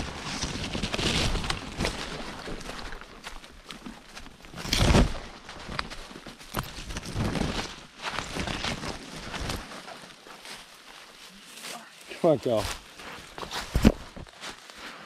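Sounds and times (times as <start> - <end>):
footsteps crunching on trail: 0.0 - 15.0.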